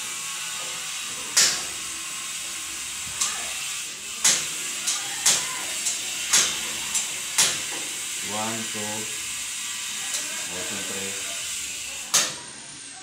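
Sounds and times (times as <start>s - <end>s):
gas burners hissing: 0.0s - 13.0s.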